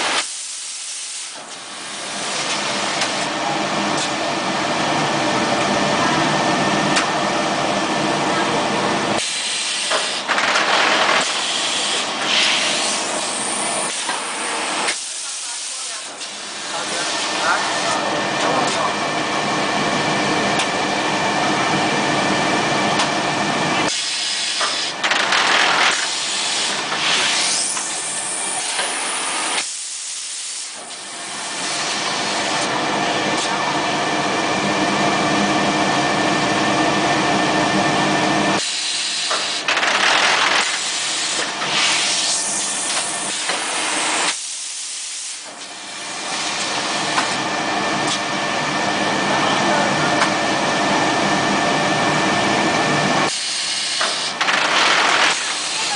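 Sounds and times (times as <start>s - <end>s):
vacuum forming machine running: 0.0s - 55.9s.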